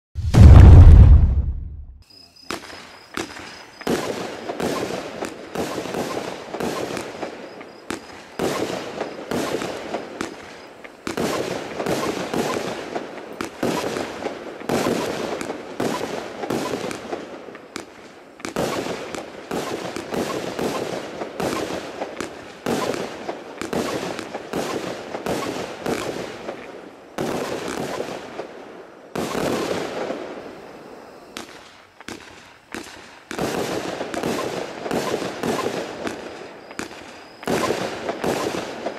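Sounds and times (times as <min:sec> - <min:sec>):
fireworks launch pops and crackling: 0:00.2 - 0:30.6, 0:31.3 - 0:38.9.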